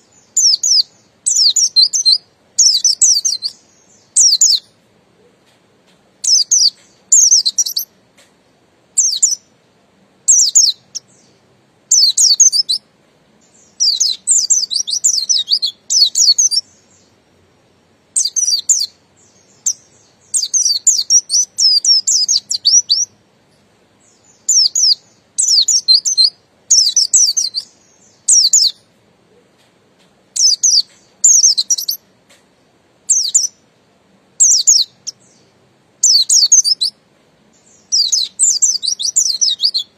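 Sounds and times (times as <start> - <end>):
bird twittering song: 0.0 - 9.6, 10.2 - 33.7, 34.4 - 39.9.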